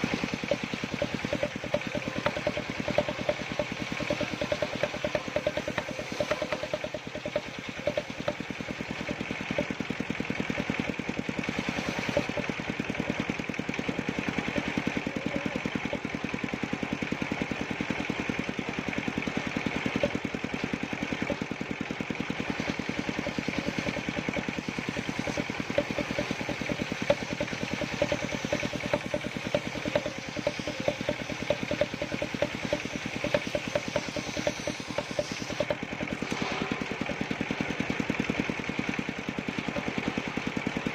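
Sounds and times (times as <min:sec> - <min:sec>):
combustion engine running: 0:00.0 - 0:40.9.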